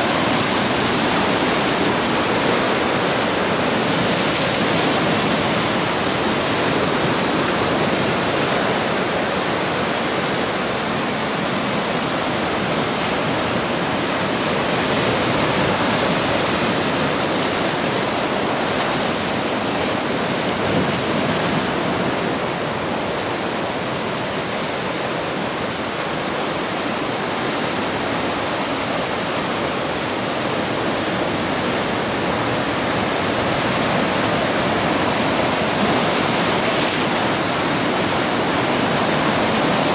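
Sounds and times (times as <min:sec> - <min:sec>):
ocean surf breaking over rocks: 0:00.0 - 0:39.9.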